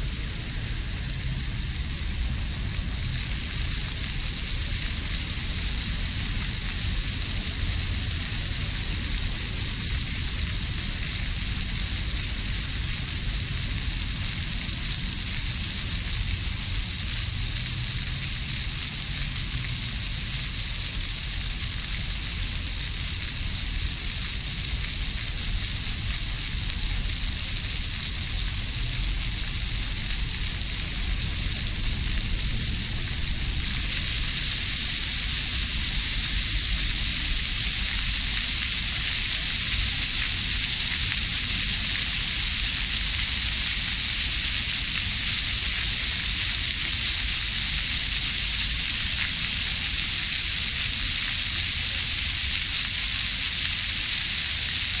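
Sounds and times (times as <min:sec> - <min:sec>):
fountain spraying and splashing: 0:00.0 - 0:55.0.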